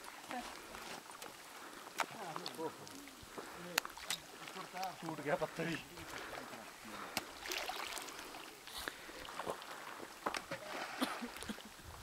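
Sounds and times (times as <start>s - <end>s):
small waves lapping on pebbles: 0.0s - 12.0s.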